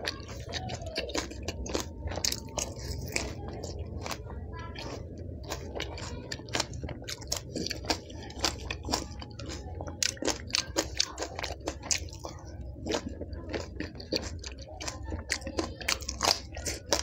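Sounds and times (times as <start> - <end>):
crisp shell crunching while chewing: 0.0 - 17.0.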